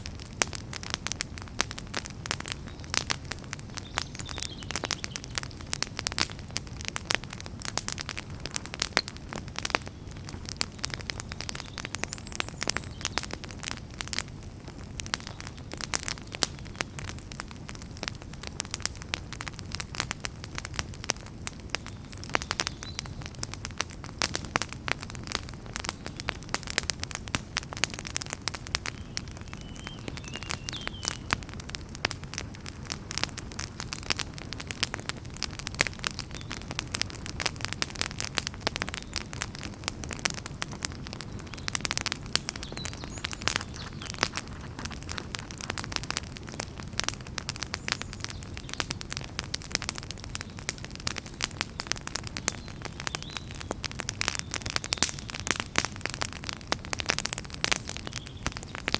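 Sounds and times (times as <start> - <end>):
low rumble of flames: 0.0 - 58.9
wood fire crackling: 0.0 - 58.9.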